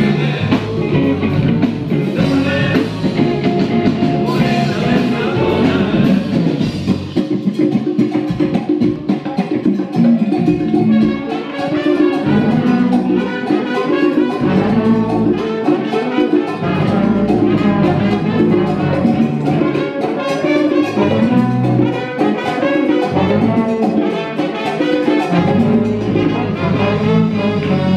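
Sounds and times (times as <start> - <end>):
live latin band playing: 0.0 - 27.9.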